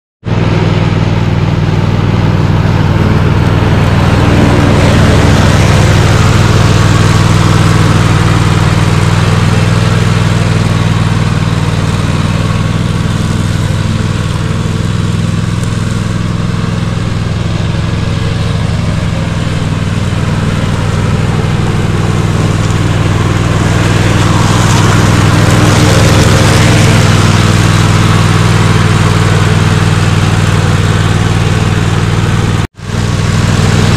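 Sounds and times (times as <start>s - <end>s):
lawn mower engine drone: 0.2s - 33.9s.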